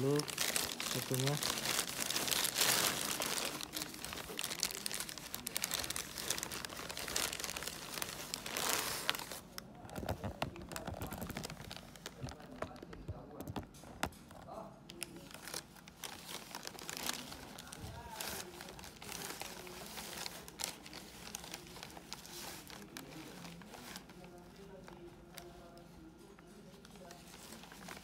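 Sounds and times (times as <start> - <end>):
plastic bag crinkling: 0.0 - 28.0.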